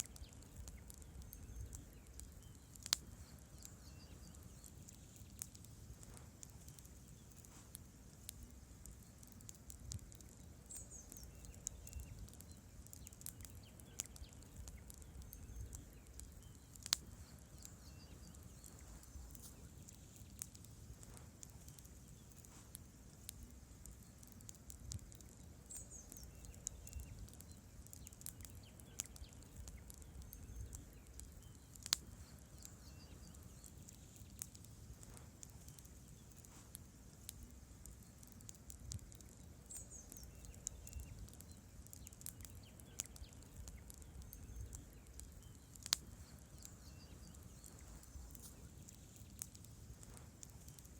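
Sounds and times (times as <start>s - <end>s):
logs crackling and snapping: 0.0s - 50.9s
low rumble of flame: 0.0s - 50.9s
sharp pops of burning wood: 0.0s - 50.9s.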